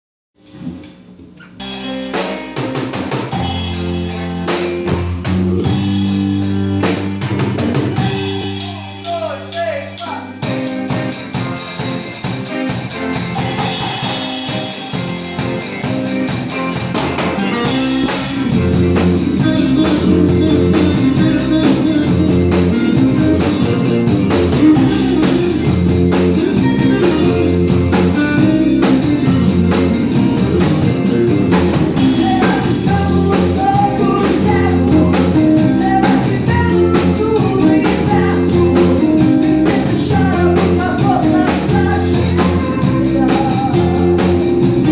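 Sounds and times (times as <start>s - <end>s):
drum kit: 0.4s - 44.9s
guitar: 0.4s - 44.9s.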